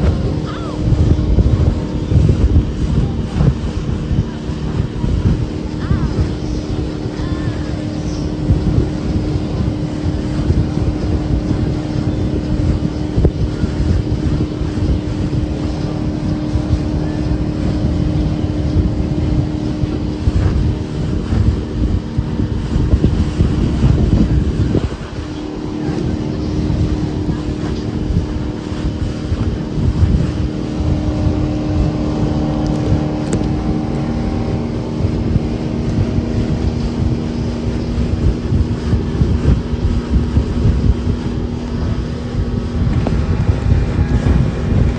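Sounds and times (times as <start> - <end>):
boat engine droning: 0.0 - 44.9
spray rushing off hull: 0.0 - 44.9
wind buffeting microphone: 0.0 - 44.9.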